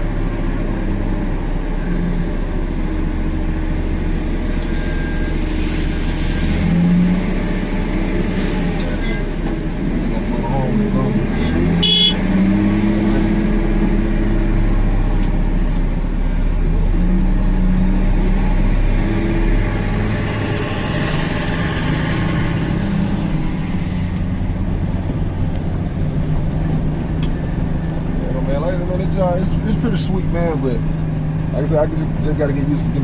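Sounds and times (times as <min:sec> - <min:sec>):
dump truck engine running: 0:00.0 - 0:33.0.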